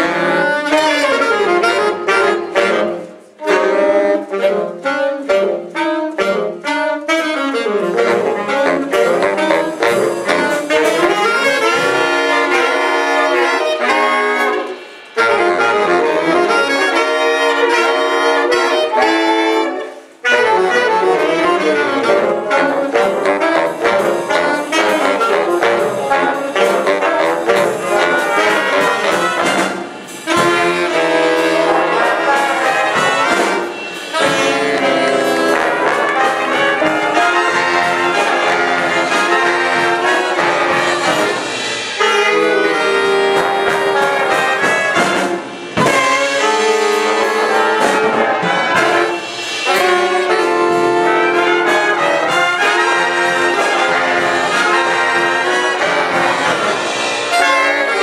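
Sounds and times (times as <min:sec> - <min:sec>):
jazz big band playing: 0:00.0 - 0:58.0.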